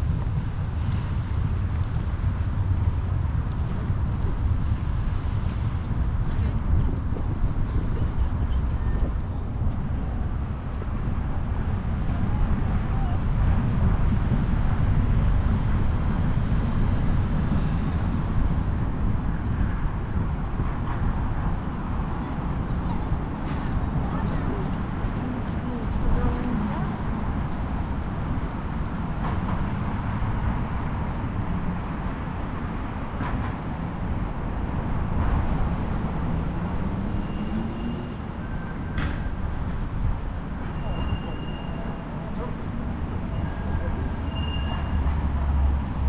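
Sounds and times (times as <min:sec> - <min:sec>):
wind buffeting microphone: 0:00.0 - 0:36.9
city street noise: 0:00.0 - 0:46.0.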